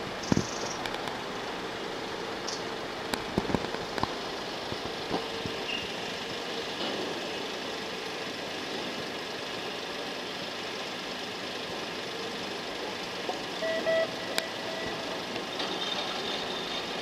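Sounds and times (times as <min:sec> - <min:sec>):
truck and crane engines idling: 0:00.0 - 0:17.0.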